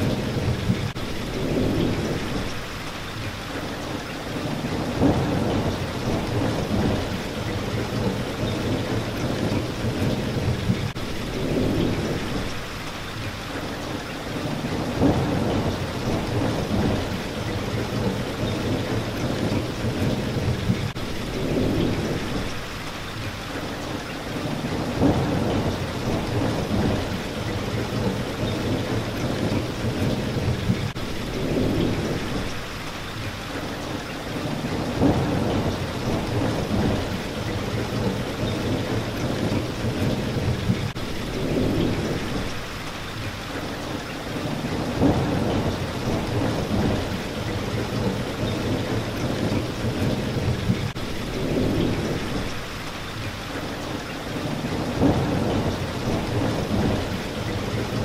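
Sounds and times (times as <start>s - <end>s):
rain hitting a window: 0.0s - 58.0s.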